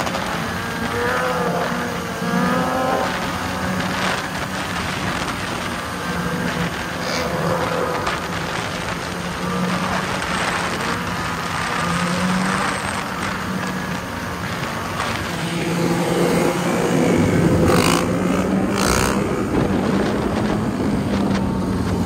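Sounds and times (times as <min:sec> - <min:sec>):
motorcycle engines droning: 0:00.0 - 0:22.0
wind rushing: 0:02.0 - 0:22.0.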